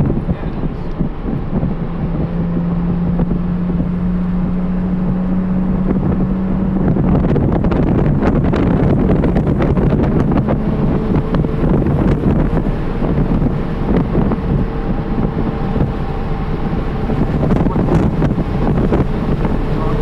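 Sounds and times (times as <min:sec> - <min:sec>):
car engine pulling: 0:00.0 - 0:20.0
road noise: 0:00.0 - 0:20.0
wind noise: 0:00.0 - 0:20.0.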